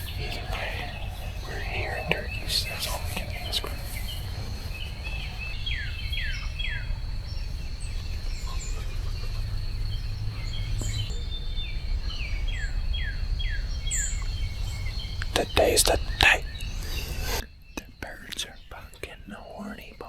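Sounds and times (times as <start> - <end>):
low steady rumble: 0.0 - 17.4
bird chirps: 0.0 - 20.0.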